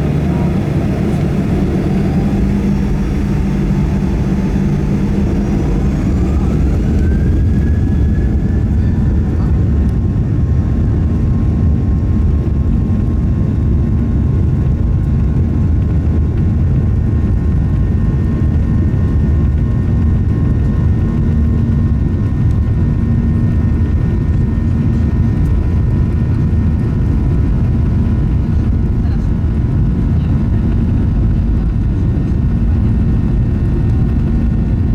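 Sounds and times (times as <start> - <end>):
faint engine whine: 0.0 - 34.9
jet engine deep rumble: 0.0 - 34.9.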